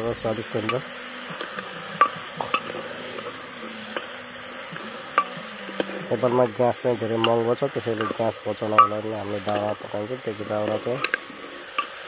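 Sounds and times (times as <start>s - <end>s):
curry sizzling: 0.0s - 12.0s.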